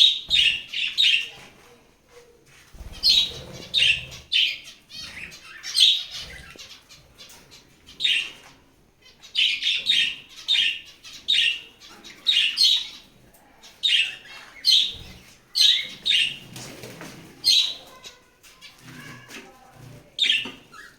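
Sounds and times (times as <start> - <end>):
budgerigars chirping and chattering: 0.0 - 1.8, 2.5 - 20.9.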